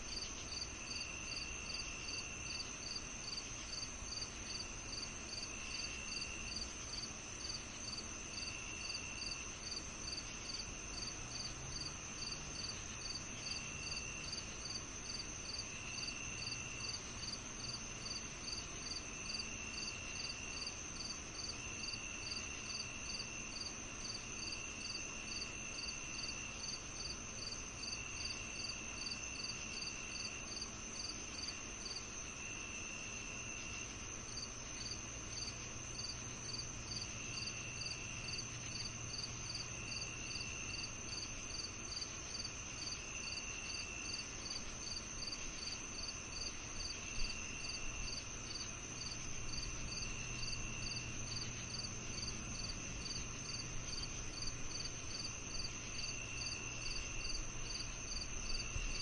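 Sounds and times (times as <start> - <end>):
cricket chirps: 0.0 - 59.0
lower insect trill: 0.0 - 59.0
high insect trill: 0.1 - 59.0.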